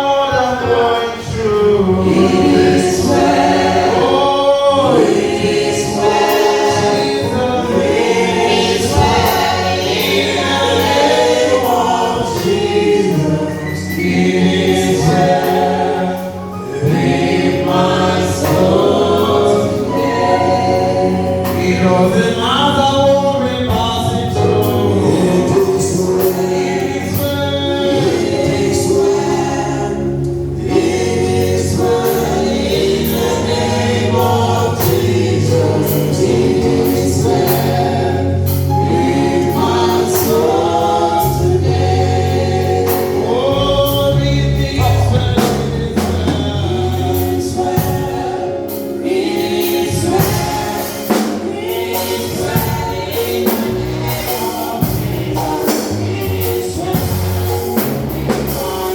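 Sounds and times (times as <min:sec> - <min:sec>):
gospel choir singing: 0:00.0 - 0:58.9
instrumental accompaniment: 0:00.0 - 0:58.9.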